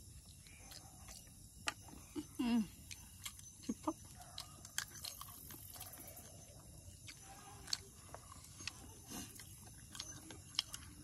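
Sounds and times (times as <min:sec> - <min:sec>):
wet chewing noises: 0:00.0 - 0:11.0.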